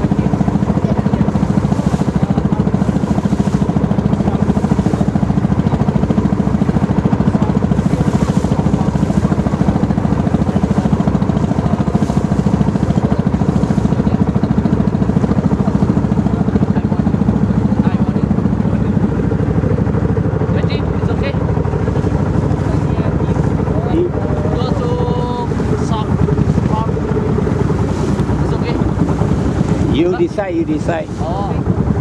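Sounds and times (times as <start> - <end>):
boat engine throbbing: 0.0 - 32.0.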